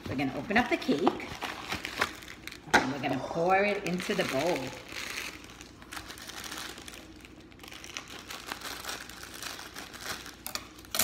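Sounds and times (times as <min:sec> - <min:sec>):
plastic bag crinkling: 0:00.4 - 0:11.0.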